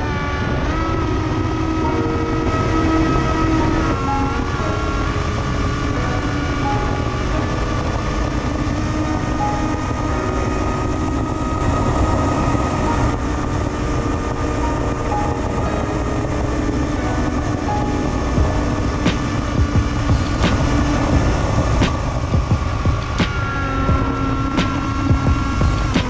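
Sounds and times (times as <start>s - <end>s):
drone motors whining: 0.0s - 26.0s
wind noise: 0.0s - 26.0s.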